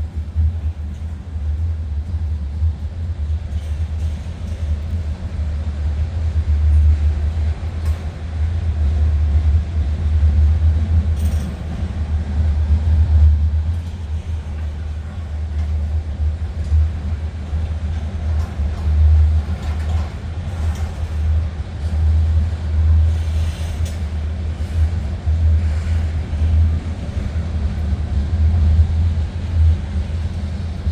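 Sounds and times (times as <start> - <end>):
train rumbling past: 0.0 - 30.9.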